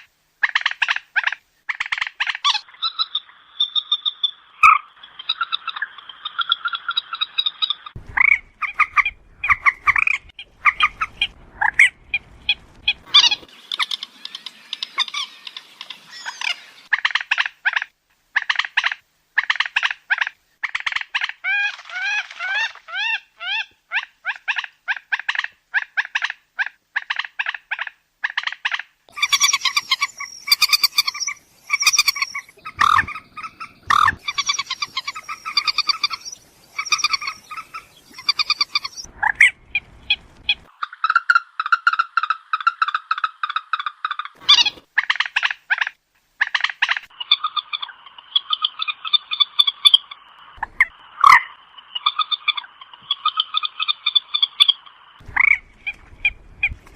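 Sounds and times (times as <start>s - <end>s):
moorhen croaking calls: 0.4s - 56.8s.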